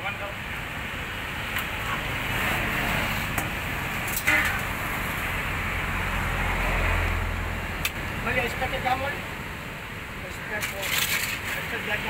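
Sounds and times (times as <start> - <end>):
engine-like background noise: 0.0 - 12.0.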